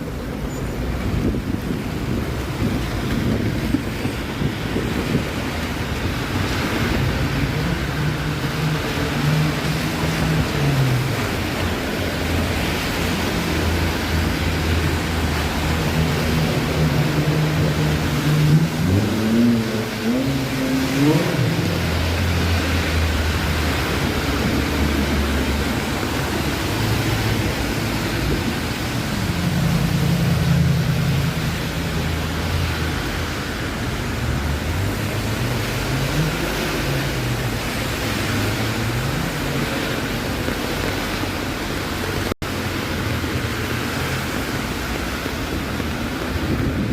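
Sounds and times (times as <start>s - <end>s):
road traffic noise: 0.0s - 46.9s
vehicle engine accelerating: 0.0s - 46.9s.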